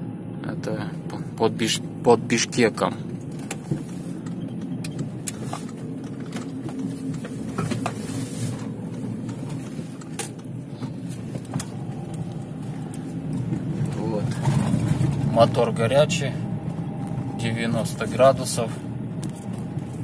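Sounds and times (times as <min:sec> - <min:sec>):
diesel engine hum inside cab: 0:00.0 - 0:20.0
knocks and rattles over road: 0:00.9 - 0:20.0.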